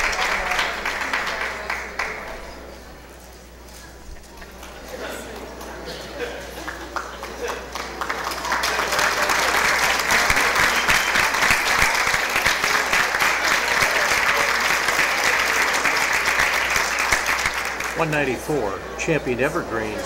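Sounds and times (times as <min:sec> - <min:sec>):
audience applauding: 0:00.0 - 0:02.7, 0:04.3 - 0:20.0.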